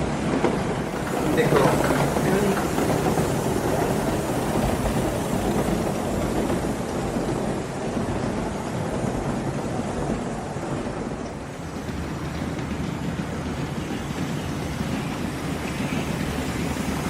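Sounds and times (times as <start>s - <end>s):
steam exhaust hissing: 0.0s - 8.9s, 11.3s - 17.0s.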